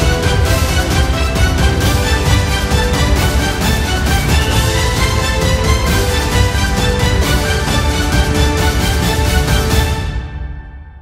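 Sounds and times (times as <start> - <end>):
music with held notes and bass: 0.0 - 10.2.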